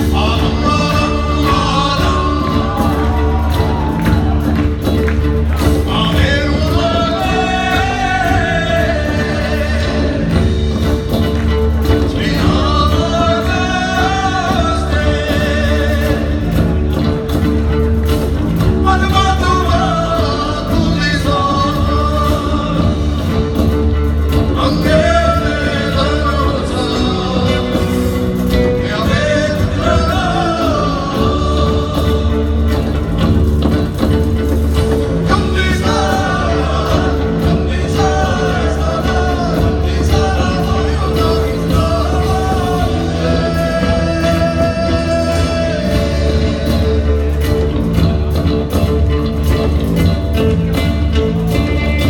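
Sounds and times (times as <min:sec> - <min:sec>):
live rock band: 0:00.0 - 0:52.0.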